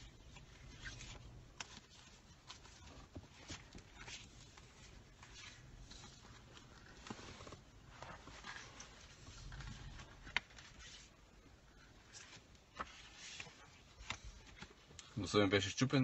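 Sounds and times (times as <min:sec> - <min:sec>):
photo prints rustling: 0:00.0 - 0:15.2.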